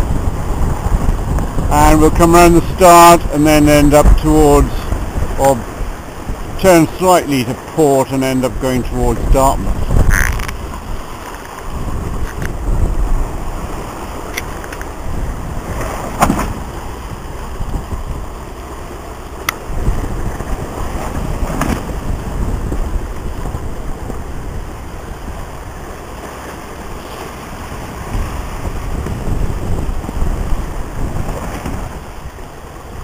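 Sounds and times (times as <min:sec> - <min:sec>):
water rushing along hull: 0:00.0 - 0:33.0
wind buffeting microphone: 0:00.0 - 0:33.0.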